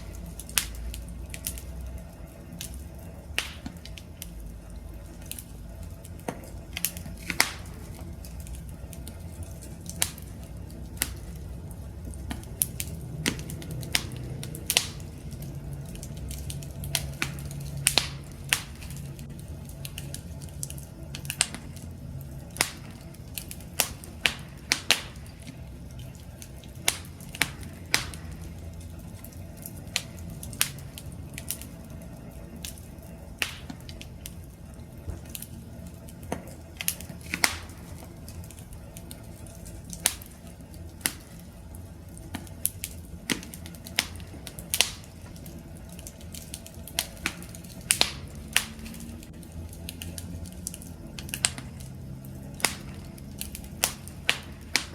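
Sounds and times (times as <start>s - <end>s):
campfire crackling and popping: 0.0s - 54.9s
low rumble of burning: 0.0s - 54.9s.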